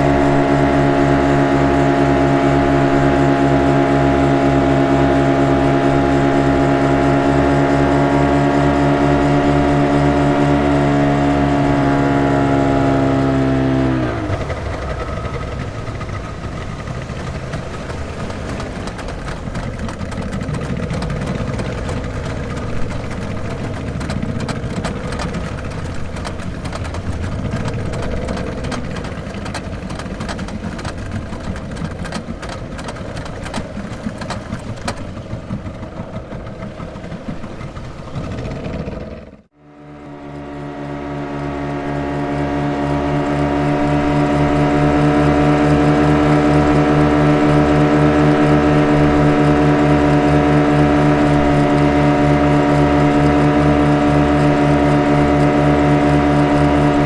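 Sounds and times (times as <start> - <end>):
engine steady drone: 0.0 - 57.0
rough motorboat engine: 0.0 - 57.0.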